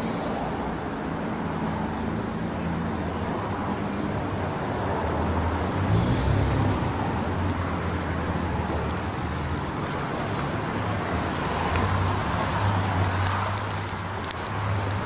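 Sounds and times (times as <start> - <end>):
low traffic hum: 0.0 - 15.0.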